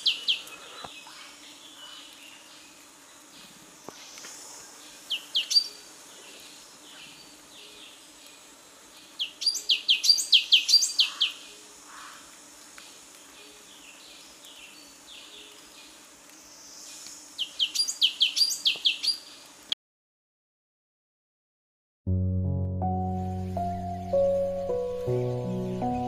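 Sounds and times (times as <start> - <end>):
faint background chirping: 0.0 - 19.7, 22.8 - 26.0.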